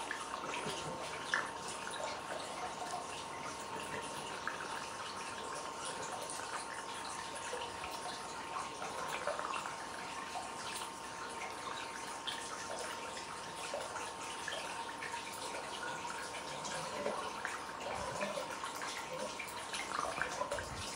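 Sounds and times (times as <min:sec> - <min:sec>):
water trickling and dripping: 0:00.0 - 0:20.9.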